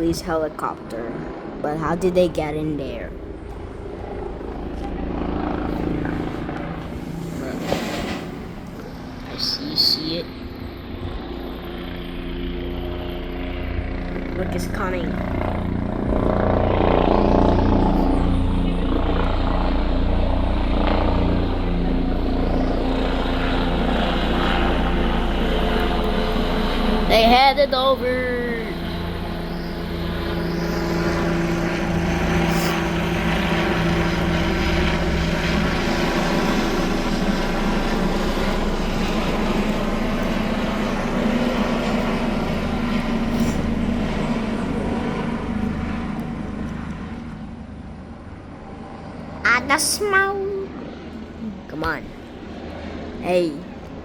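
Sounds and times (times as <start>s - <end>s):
helicopter rotor and engine rumble: 0.0s - 54.0s.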